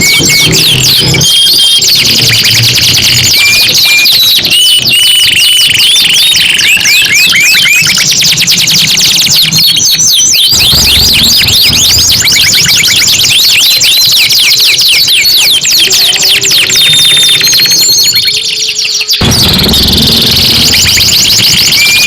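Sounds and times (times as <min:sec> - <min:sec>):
canaries singing trills: 0:00.0 - 0:22.0.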